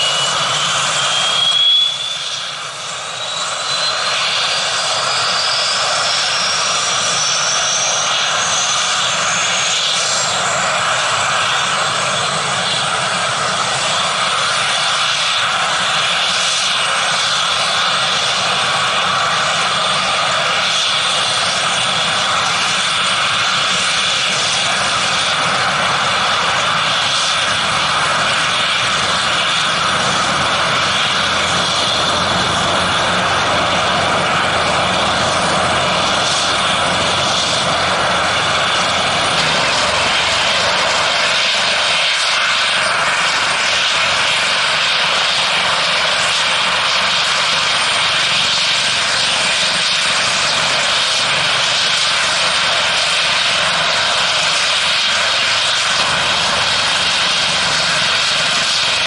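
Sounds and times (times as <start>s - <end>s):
helicopter rotors turning: 0.0s - 59.0s
turbine engine whine: 0.0s - 59.0s.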